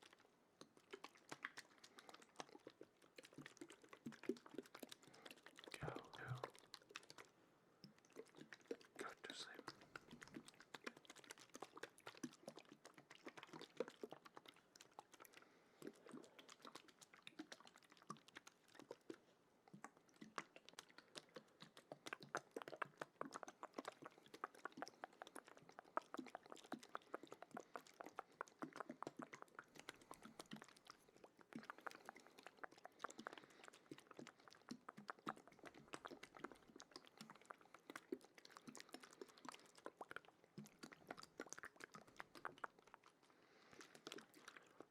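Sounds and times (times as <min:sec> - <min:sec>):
wet mouth clicks and smacks: 0:00.0 - 0:44.9.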